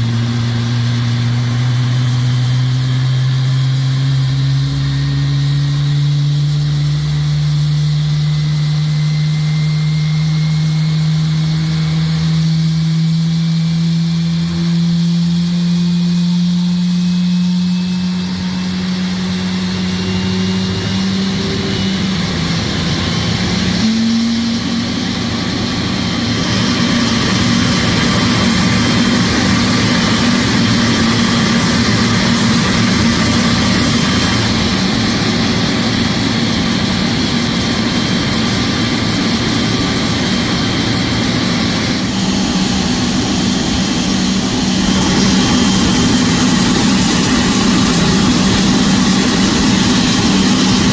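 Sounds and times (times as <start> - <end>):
turbofan engine starting: 0.0 - 50.9.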